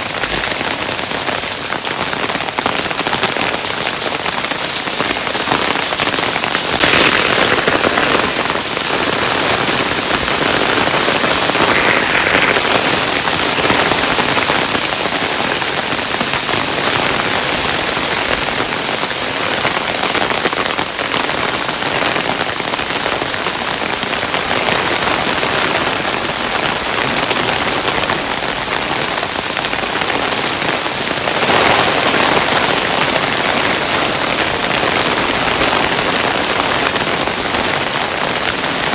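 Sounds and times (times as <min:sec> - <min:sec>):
hailstones pattering: 0:00.0 - 0:38.9.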